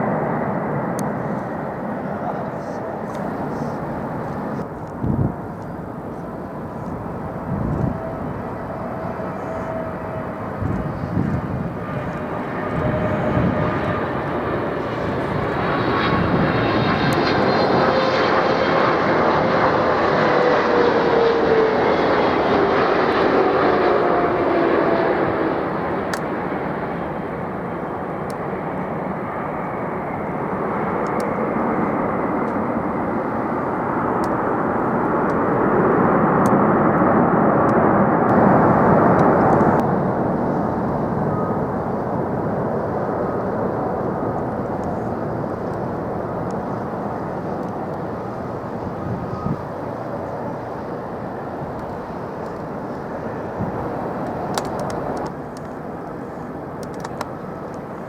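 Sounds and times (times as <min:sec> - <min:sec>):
jet airliner engine roar: 0:00.0 - 0:58.0.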